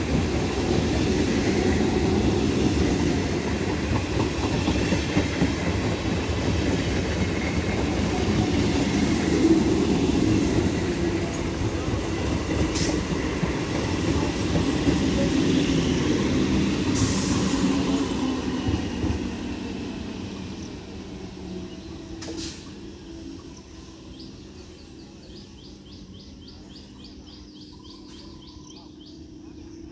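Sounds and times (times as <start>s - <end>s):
train wheels rumbling on rails: 0.0s - 29.2s.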